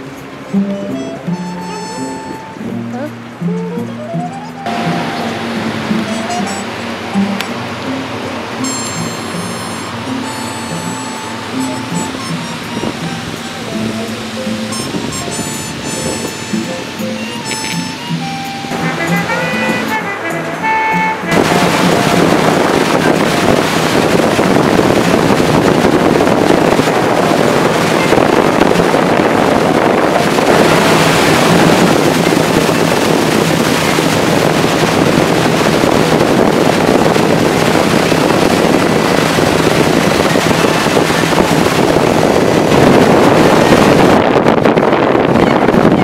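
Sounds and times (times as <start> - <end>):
boat engine humming: 0.0 - 46.0
wind buffeting microphone: 1.2 - 46.0.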